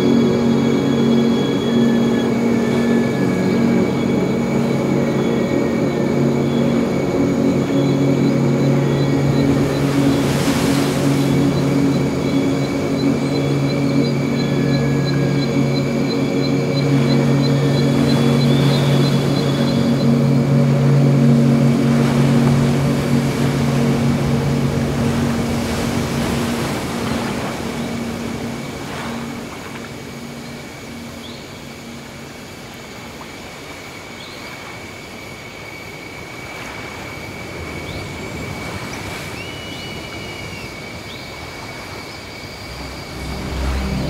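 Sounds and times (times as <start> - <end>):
low sustained drone: 0.0 - 33.2, 36.6 - 44.0
ocean waves washing in: 0.0 - 44.0.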